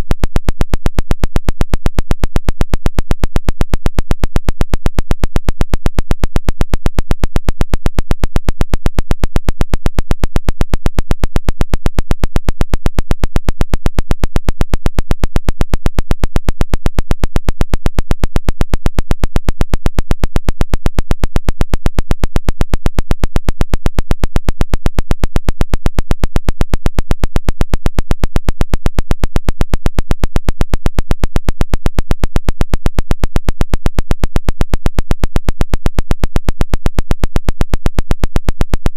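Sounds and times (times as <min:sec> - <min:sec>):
rapid radio clicking pulses: 0:00.2 - 0:38.9.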